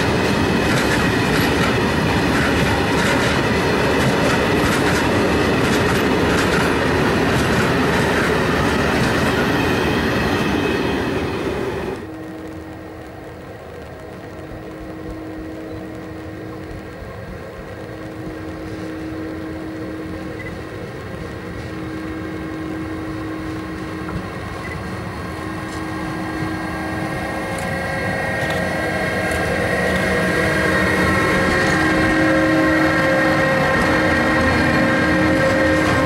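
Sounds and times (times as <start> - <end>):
electric locomotive humming and whining: 0.0 - 36.0.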